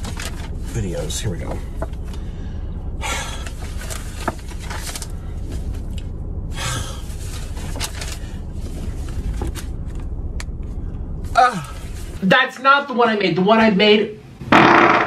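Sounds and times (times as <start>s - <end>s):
low rumble in car cabin: 0.0s - 12.4s.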